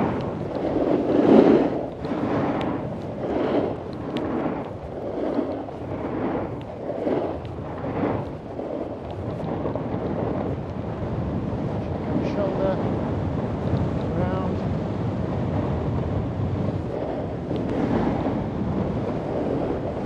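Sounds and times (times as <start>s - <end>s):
snowboard edge scraping snow: 0.0s - 14.0s, 15.5s - 20.0s.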